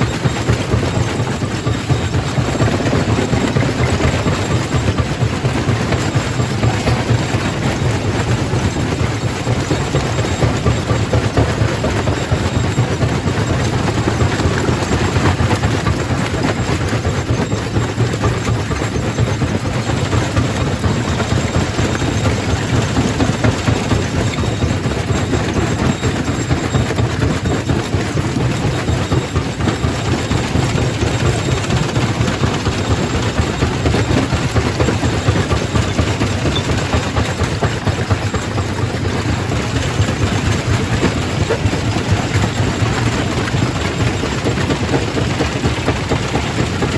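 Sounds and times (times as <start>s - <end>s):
rock crusher machine din: 0.0s - 46.9s.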